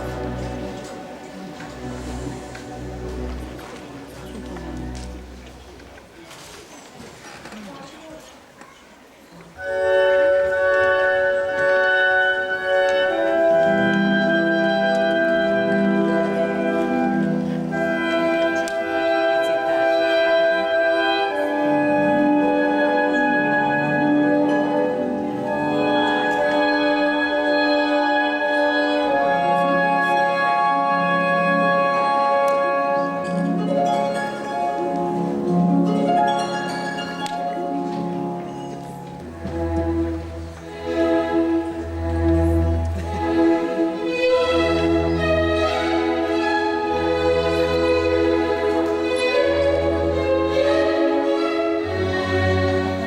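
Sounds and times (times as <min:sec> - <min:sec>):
orchestral bowed strings: 0:00.0 - 0:06.0, 0:09.6 - 0:53.0
classical instrumental music: 0:00.0 - 0:53.0.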